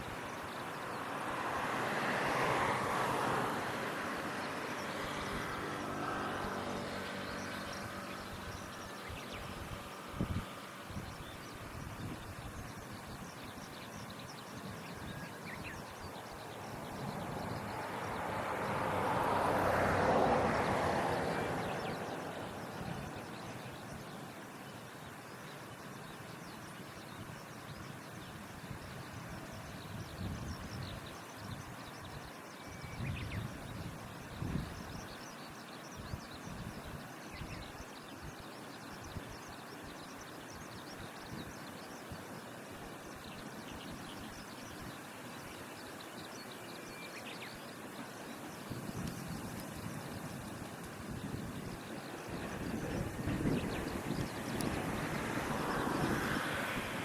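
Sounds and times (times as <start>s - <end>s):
small birds twittering: 6.5s - 18.8s, 21.2s - 56.4s.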